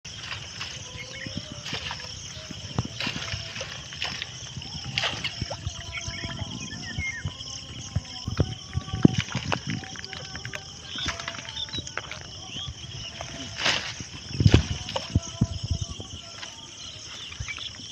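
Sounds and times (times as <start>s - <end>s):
water splashing and dripping: 0.1s - 17.8s.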